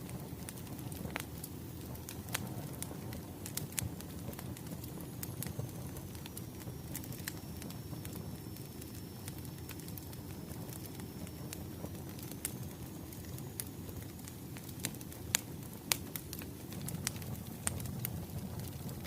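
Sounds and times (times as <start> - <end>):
burning logs rumble: 0.0 - 19.0
wood fire pops and snaps: 0.0 - 19.0.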